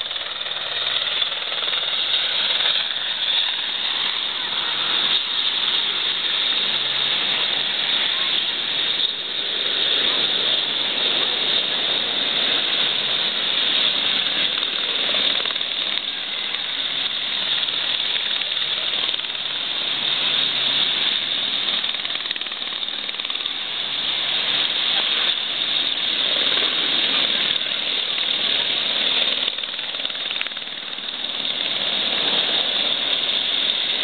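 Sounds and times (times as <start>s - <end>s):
helicopter rotor beating: 0.0s - 34.0s.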